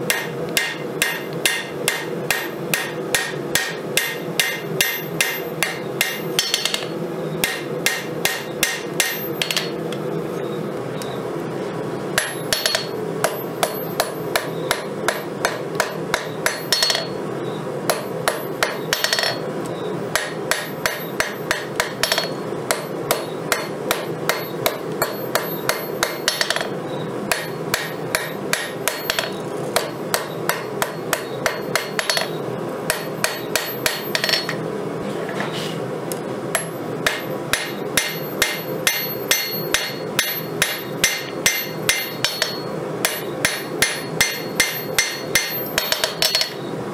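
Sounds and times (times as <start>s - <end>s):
hammer striking steel on anvil: 0.0s - 9.9s, 12.2s - 17.2s, 17.9s - 19.4s, 20.1s - 34.6s, 36.5s - 46.7s.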